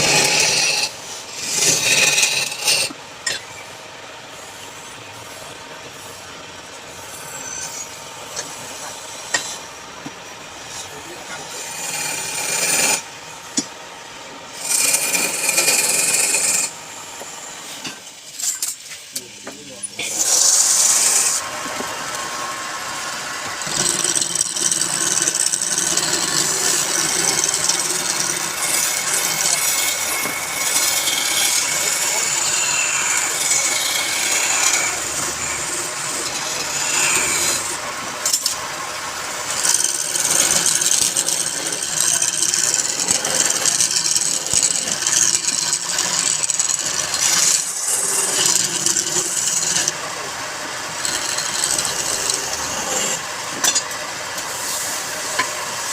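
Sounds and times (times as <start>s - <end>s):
wood lathe tool scraping wood: 0.0s - 3.7s, 4.3s - 13.4s, 14.2s - 55.9s.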